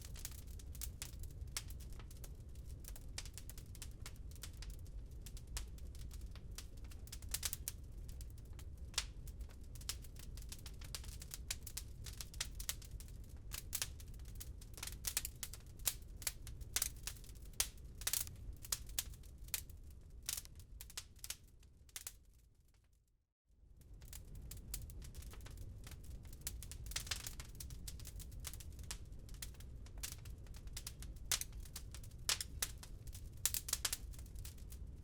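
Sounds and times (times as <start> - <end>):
wood fire crackling: 0.0 - 22.7, 23.8 - 35.0.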